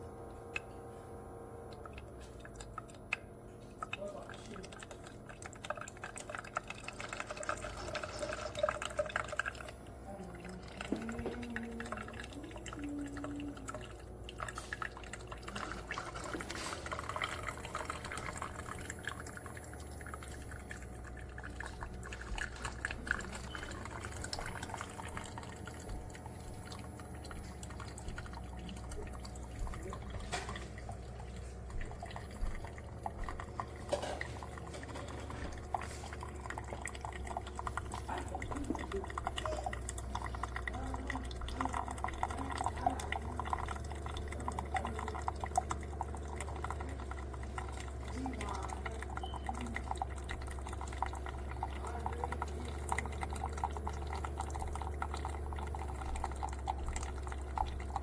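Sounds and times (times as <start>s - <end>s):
coffee maker hum: 0.0s - 58.0s
coffee dripping into a cup: 1.6s - 58.0s.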